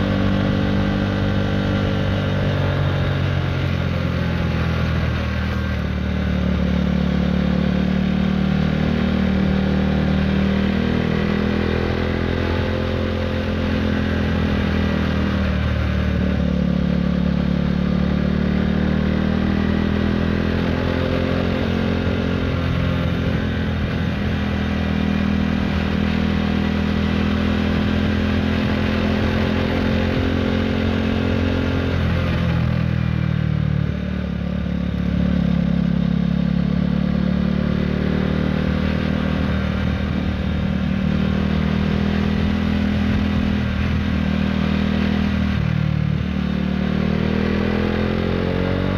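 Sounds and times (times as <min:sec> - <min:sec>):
motorcycle engine revving: 0:00.0 - 0:48.9
wind and road noise: 0:00.0 - 0:48.9.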